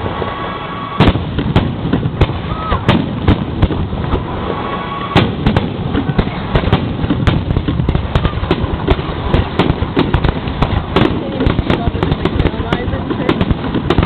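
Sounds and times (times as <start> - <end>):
fireworks continuous rumble: 0.0 - 14.0
fireworks sharp bangs: 0.0 - 14.0.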